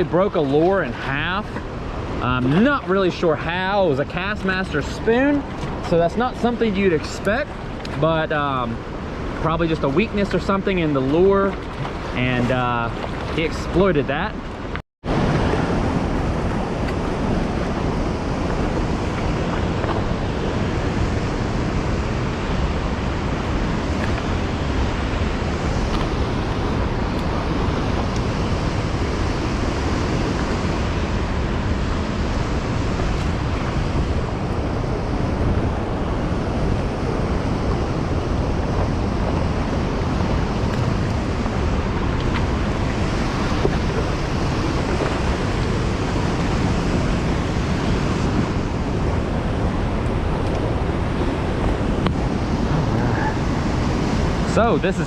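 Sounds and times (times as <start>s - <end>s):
rushing river water: 0.0s - 55.0s.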